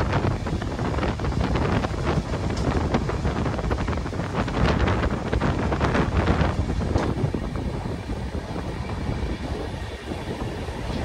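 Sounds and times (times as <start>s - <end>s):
moving train rumble: 0.0s - 11.0s
wind buffeting microphone: 0.0s - 11.0s.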